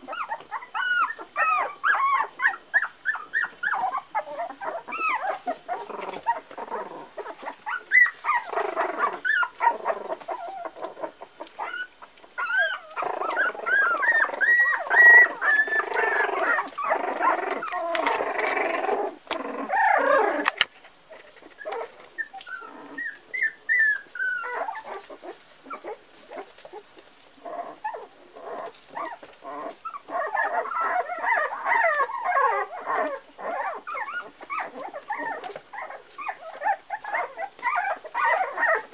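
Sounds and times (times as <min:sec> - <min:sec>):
puppies yipping and whining: 0:00.0 - 0:38.9.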